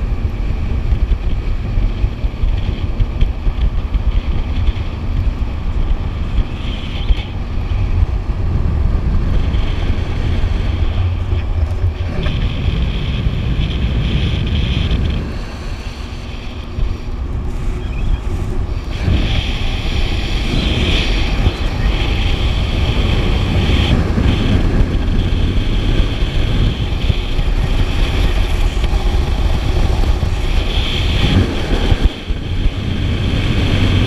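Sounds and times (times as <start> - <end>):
truck road noise: 0.0 - 34.0
wind rumbling on microphone: 0.0 - 34.0.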